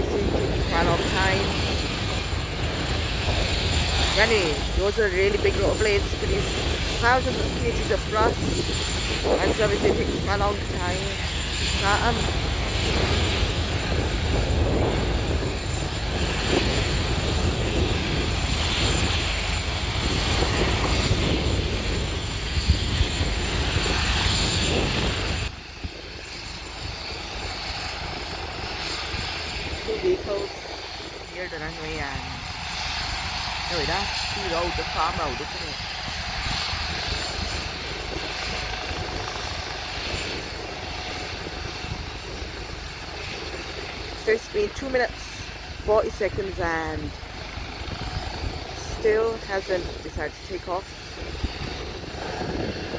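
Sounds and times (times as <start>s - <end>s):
helicopter turbine and rotor noise: 0.0s - 52.9s.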